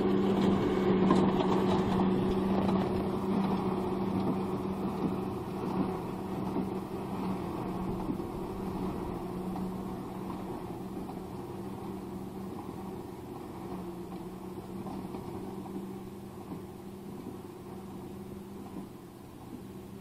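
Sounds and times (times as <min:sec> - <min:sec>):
tractor engine running under load: 0:00.0 - 0:20.0.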